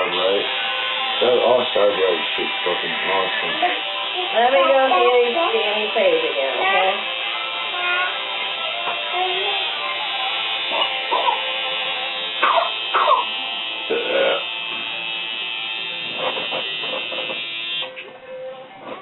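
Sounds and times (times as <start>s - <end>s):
tattoo machine buzzing: 0.0s - 18.1s.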